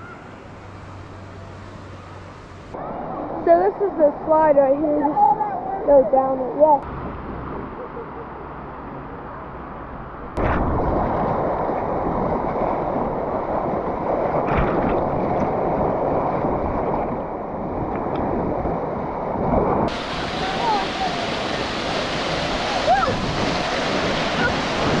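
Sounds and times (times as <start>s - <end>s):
creek water rushing: 0.0s - 7.3s, 10.9s - 25.0s.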